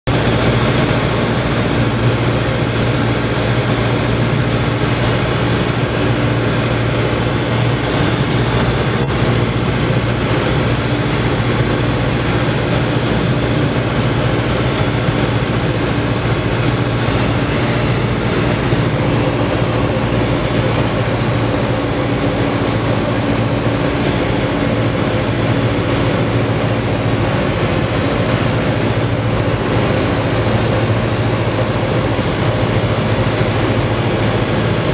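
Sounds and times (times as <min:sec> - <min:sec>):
aircraft engine and propeller drone: 0:00.1 - 0:34.9.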